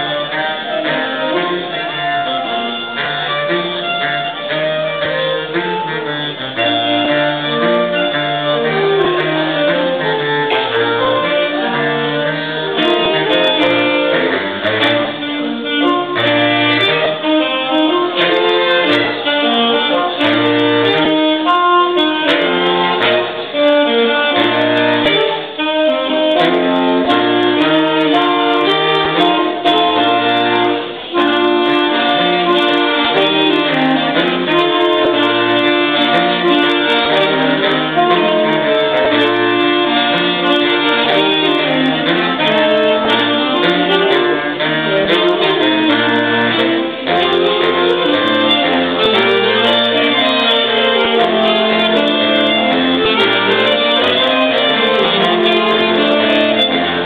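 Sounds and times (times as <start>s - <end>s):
saxophone ensemble playing: 0.0s - 57.0s.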